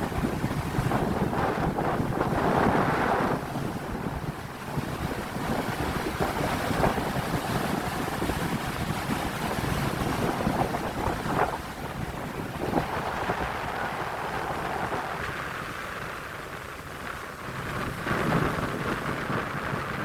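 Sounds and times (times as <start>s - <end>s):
surf rushing: 0.0s - 20.0s
wind buffeting microphone: 0.0s - 20.0s.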